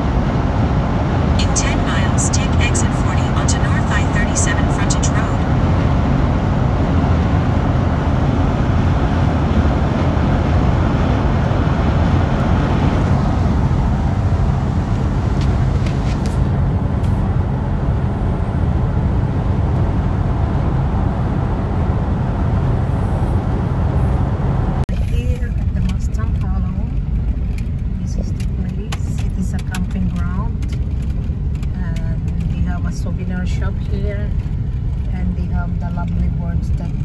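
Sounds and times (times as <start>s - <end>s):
car road and engine noise: 0.0s - 37.0s
deep rumble: 0.0s - 37.0s.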